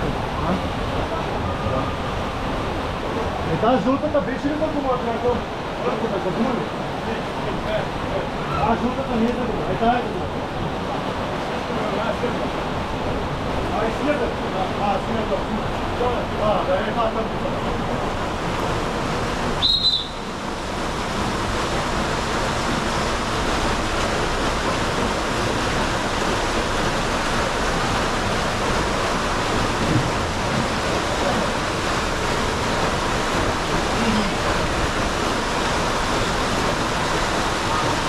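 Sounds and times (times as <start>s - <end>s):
water rushing: 0.0s - 38.0s.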